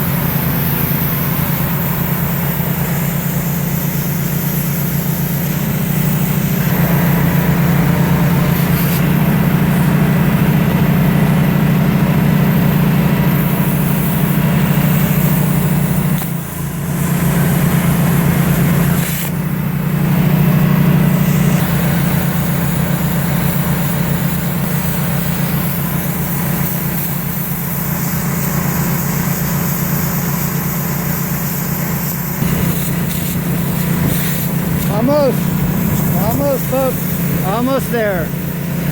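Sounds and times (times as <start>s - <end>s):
generator running: 0.0s - 38.9s
plasma cutter cutting steel: 0.0s - 38.9s.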